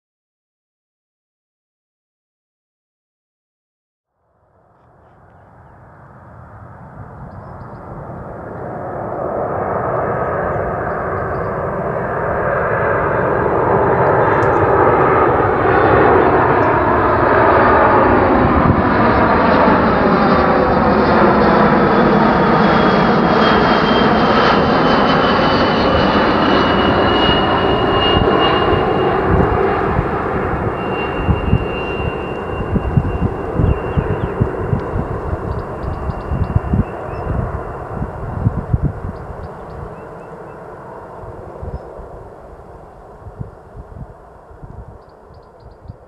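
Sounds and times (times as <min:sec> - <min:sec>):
jet airliner roar with whine: 0:04.5 - 0:46.0.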